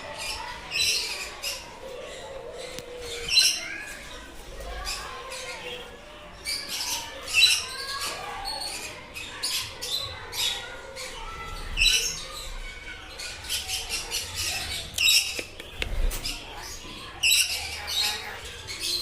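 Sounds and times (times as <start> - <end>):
flock of birds squawking: 0.0 - 19.0.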